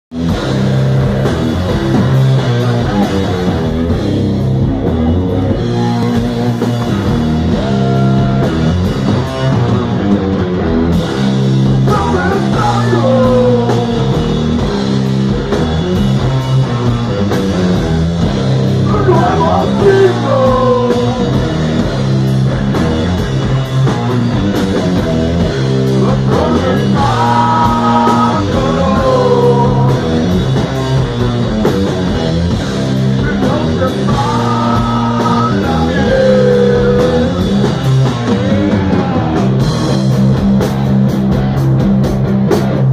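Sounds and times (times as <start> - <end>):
heavy rock band playing: 0.1 - 42.9.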